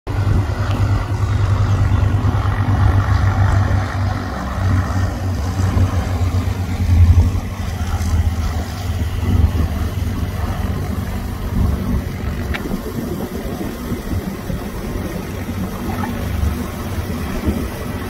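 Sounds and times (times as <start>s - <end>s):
propeller plane engine droning: 0.1s - 18.0s.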